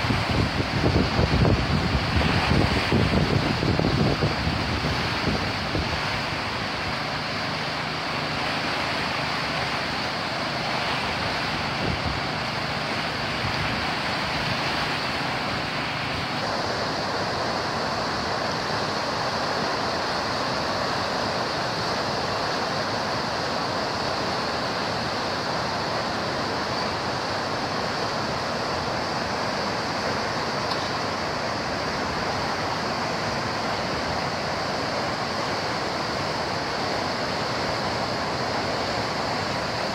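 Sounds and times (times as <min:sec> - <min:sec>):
water rushing through sluice gate: 0:00.0 - 0:39.9.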